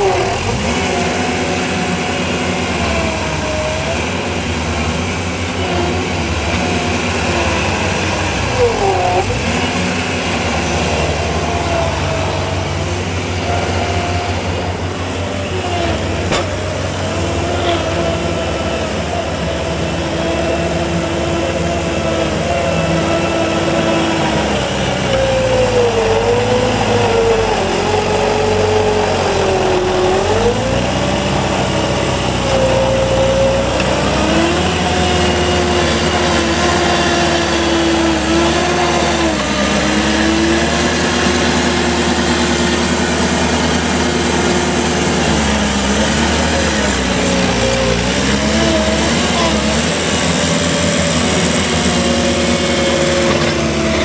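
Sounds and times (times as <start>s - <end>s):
loader diesel engine running: 0.0s - 54.0s.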